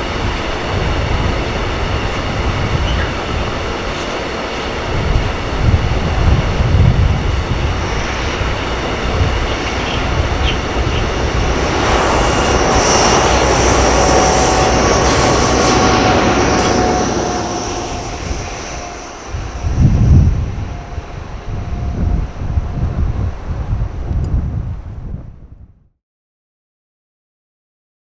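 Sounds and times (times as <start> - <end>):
wheels squealing on rails: 0.0 - 23.6
freight train rolling past: 0.0 - 25.3
wind buffeting microphone: 0.0 - 25.9.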